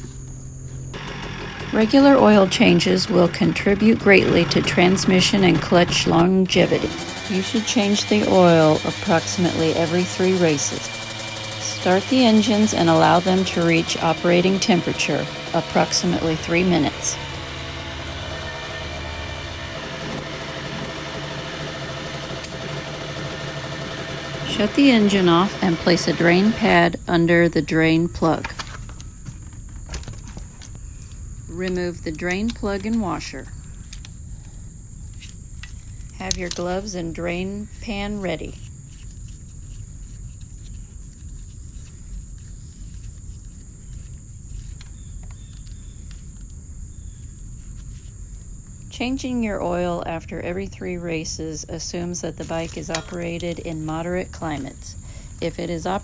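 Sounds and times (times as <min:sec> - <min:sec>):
crickets buzzing: 0:00.0 - 0:56.0
dirt bike engine idling: 0:00.0 - 0:56.0.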